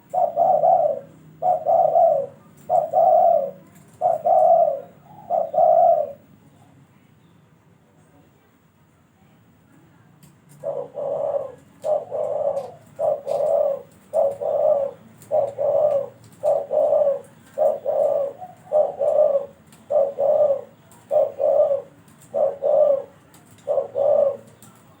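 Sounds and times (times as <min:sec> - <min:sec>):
dove cooing: 0:00.0 - 0:06.3, 0:10.5 - 0:25.0.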